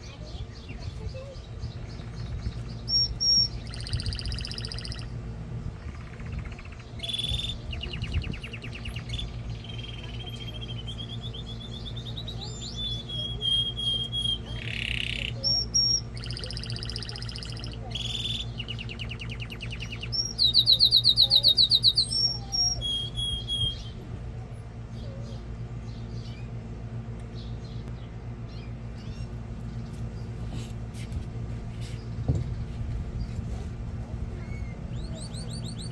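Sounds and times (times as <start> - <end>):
canary singing trills: 0.0 - 24.0, 24.6 - 30.4, 34.3 - 35.9
steady low hum: 0.0 - 35.9.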